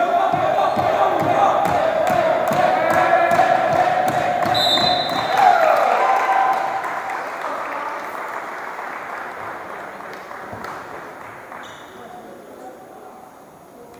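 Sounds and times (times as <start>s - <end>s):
crowd cheering and applauding: 0.0s - 11.6s.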